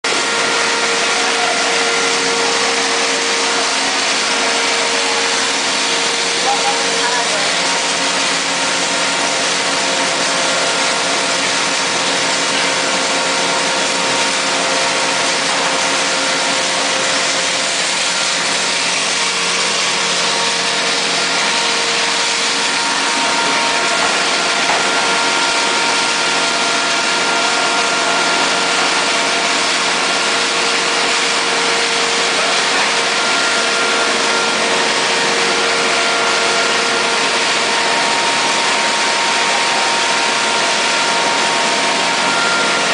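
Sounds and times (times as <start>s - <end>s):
grinding machinery running: 0.0s - 42.9s.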